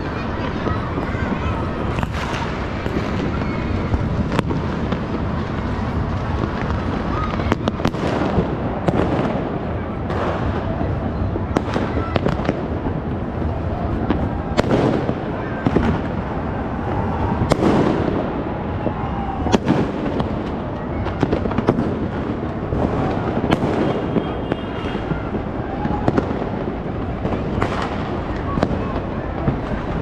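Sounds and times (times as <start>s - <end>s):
fireworks and firecrackers banging: 0.0s - 30.0s.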